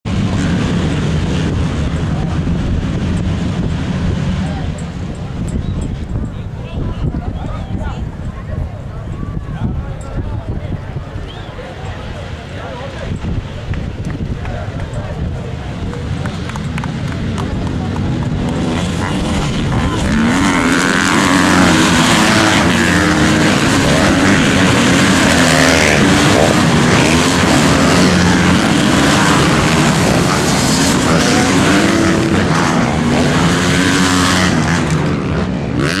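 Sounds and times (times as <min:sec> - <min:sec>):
motocross bikes revving: 0:00.1 - 0:09.1, 0:09.9 - 0:36.0.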